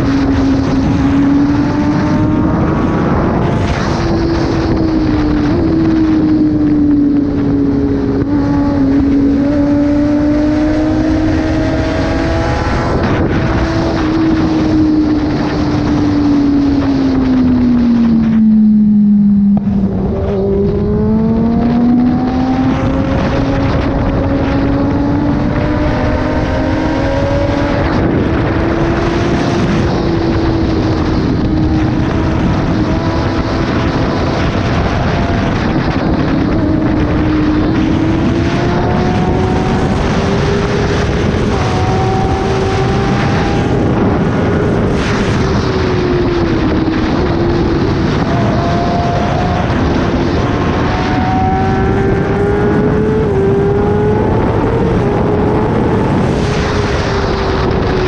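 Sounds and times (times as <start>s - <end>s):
heavy wind rush: 0.0s - 58.0s
motorcycle engine running: 0.0s - 58.0s.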